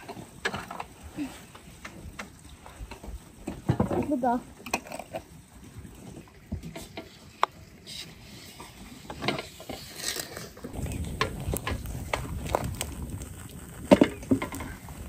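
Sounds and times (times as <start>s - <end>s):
wood fire rumbling and crackling: 0.0s - 15.0s.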